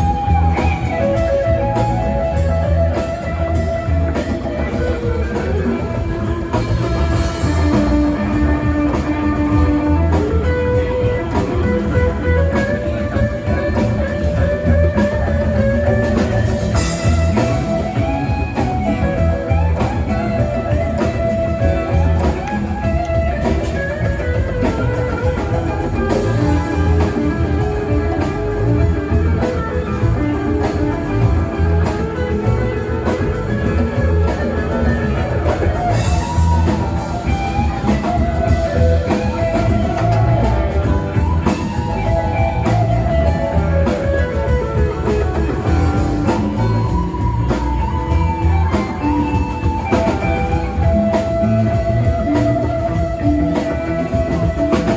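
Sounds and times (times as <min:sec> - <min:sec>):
electric guitar lines: 0:00.0 - 0:54.9
rock band playing: 0:00.0 - 0:54.9.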